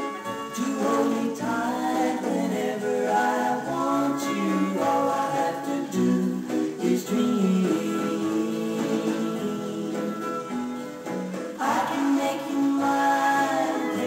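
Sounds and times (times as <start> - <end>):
gramophone record vocal music: 0.0 - 14.0.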